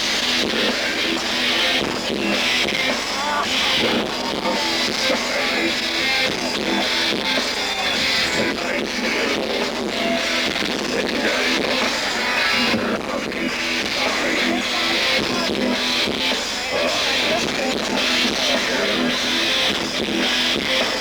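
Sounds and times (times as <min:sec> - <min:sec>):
metal band playing live: 0:00.0 - 0:21.0.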